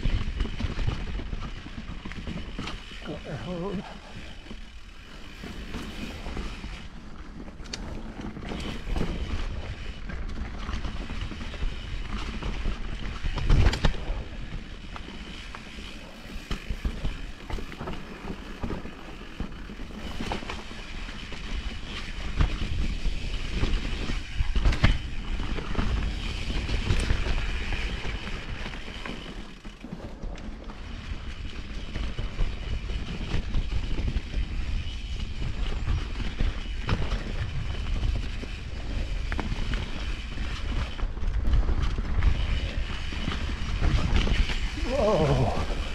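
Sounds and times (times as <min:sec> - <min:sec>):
bike rattling and knocking: 0:00.0 - 0:45.9.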